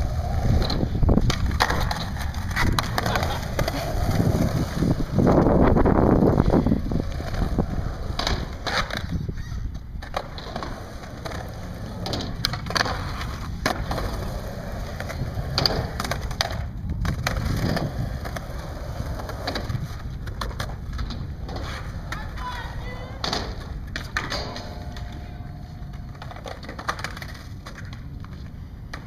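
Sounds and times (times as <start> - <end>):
skateboard clacks: 0.0 - 29.0
skateboard wheels rolling on concrete: 0.0 - 29.0.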